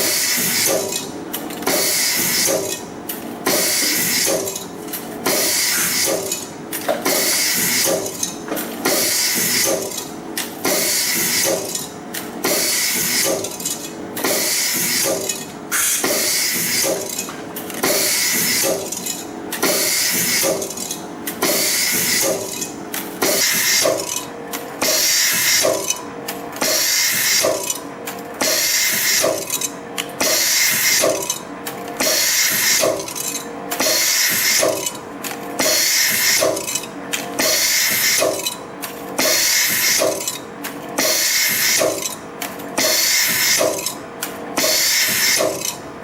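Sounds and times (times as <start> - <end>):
machine running noisily: 0.0 - 46.0
sharp machine clicks: 0.1 - 45.8.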